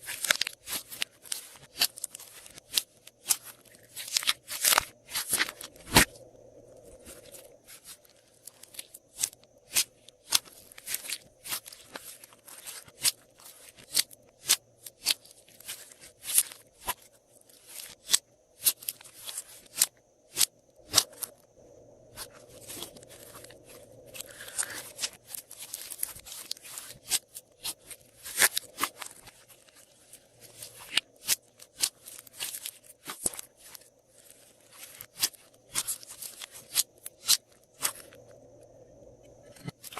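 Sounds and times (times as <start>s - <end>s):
slime kneaded by hand: 0.0s - 6.2s, 6.9s - 21.5s, 22.1s - 38.2s.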